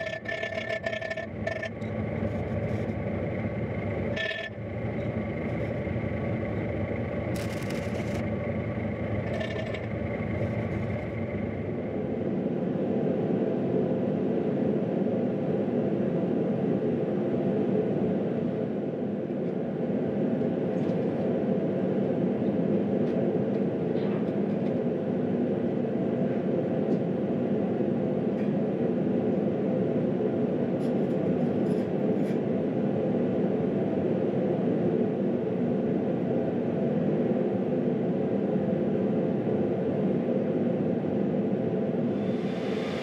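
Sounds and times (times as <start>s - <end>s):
heater roaring steadily: 0.0s - 43.0s.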